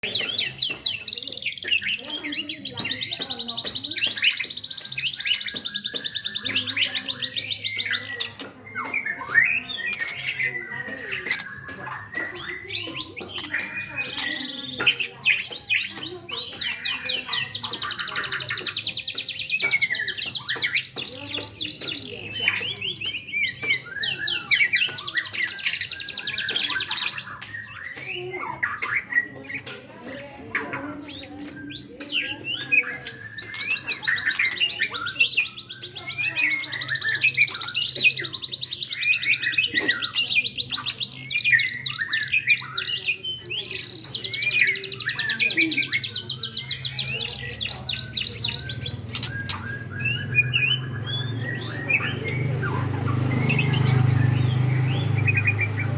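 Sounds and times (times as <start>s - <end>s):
bird fast trills: 0.0s - 30.2s, 31.0s - 55.9s
bird singing whistled notes: 0.0s - 55.9s.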